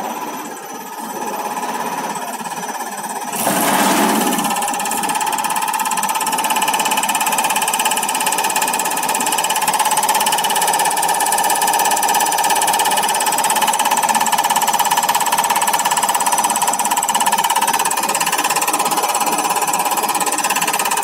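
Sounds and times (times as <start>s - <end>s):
fast mechanical ticking: 0.0s - 21.0s.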